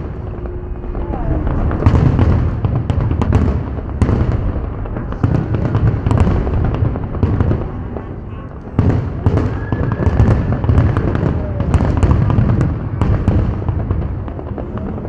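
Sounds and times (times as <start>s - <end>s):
fireworks booms and crackling bangs: 0.0s - 15.0s.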